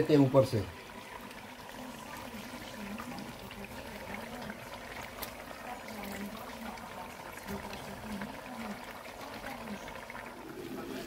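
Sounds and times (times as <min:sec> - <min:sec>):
pot simmering with bubbling: 0:00.0 - 0:11.0.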